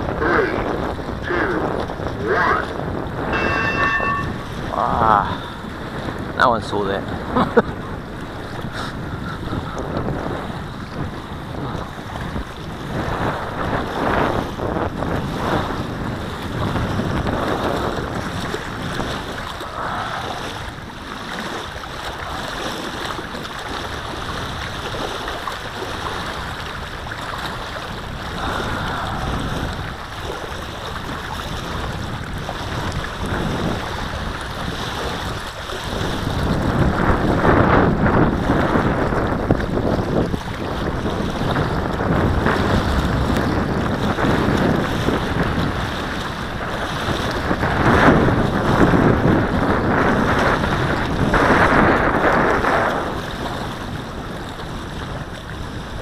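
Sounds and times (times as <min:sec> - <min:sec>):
choppy lake water: 0:00.0 - 0:56.0
gusty wind buffeting microphone: 0:00.0 - 0:56.0.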